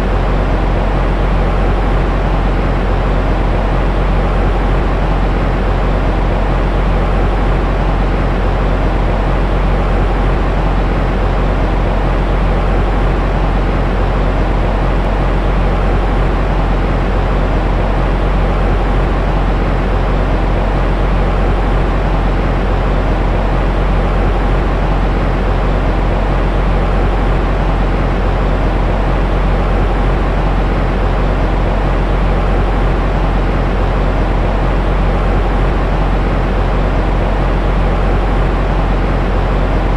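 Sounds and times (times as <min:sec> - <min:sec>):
deep rumbling white noise: 0:00.0 - 0:39.9.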